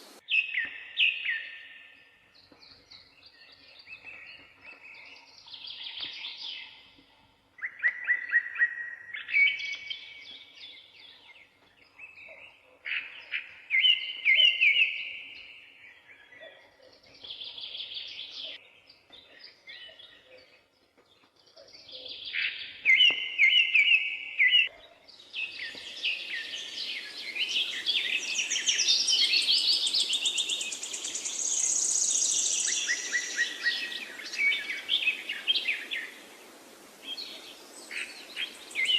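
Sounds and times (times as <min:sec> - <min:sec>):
songbirds singing trills: 0:00.0 - 0:38.9.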